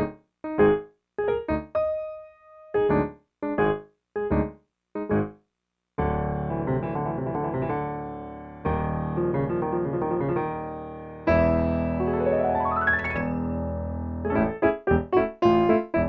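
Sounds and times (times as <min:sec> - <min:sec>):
piano playing: 0:00.0 - 0:05.3, 0:06.0 - 0:16.0.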